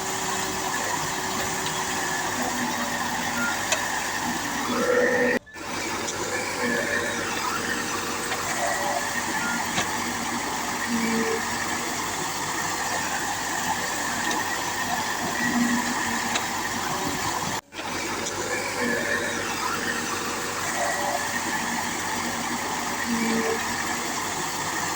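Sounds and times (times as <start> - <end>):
diesel engines of heavy machinery: 0.0 - 24.9.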